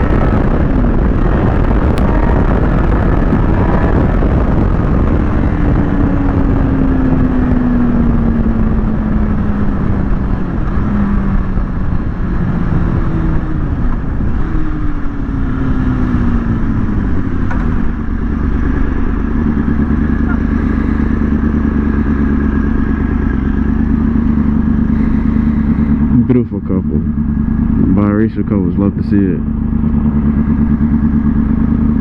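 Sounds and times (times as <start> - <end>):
motorcycle engine running: 0.0 - 32.0
wind rush on microphone: 0.0 - 32.0.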